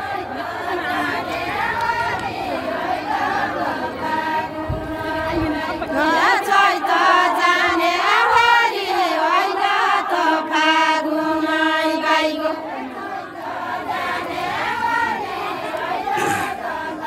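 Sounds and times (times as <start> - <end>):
women singing folk song: 0.0 - 17.0.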